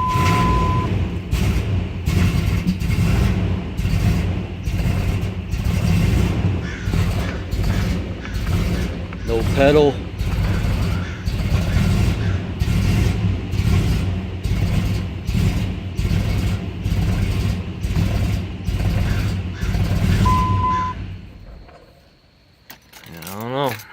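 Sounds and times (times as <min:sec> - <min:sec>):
truck engine idling roughly: 0:00.0 - 0:21.8.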